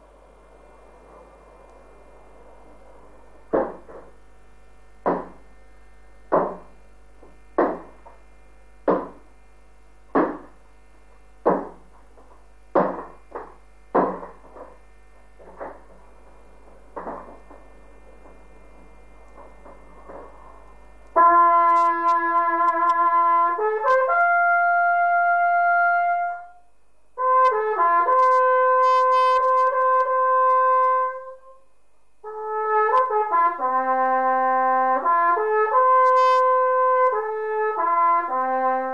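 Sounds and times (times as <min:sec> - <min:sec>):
mains hum and hiss: 0:00.0 - 0:38.9.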